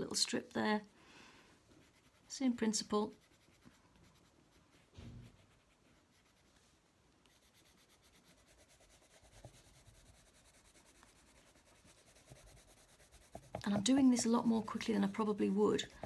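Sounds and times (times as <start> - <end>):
coloured pencil scratching on paper: 1.7 - 6.6, 7.2 - 16.0.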